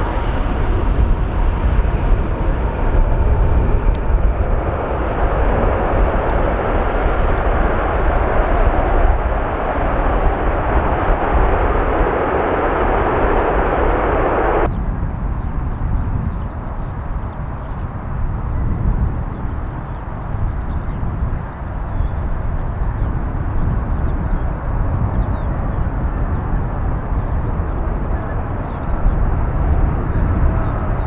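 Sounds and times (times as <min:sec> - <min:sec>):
jet plane noise: 0:00.0 - 0:31.0
wind on microphone: 0:00.0 - 0:31.0.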